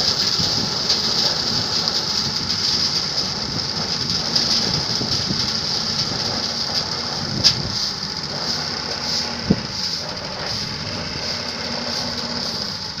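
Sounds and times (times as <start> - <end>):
threshing machine rattling: 0.0 - 13.0.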